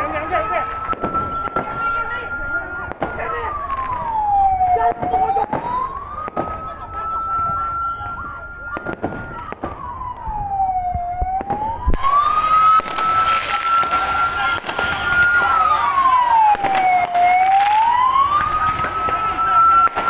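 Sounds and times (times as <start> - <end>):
ambulance siren wailing: 0.0 - 20.0
crowd noise: 0.0 - 20.0.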